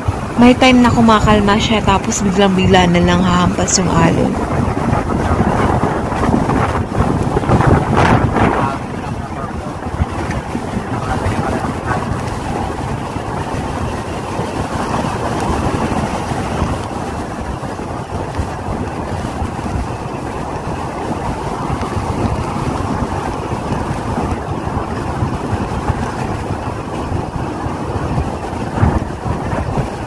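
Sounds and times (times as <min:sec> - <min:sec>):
surf breaking on beach: 0:00.0 - 0:30.0
wind buffeting microphone: 0:00.0 - 0:30.0.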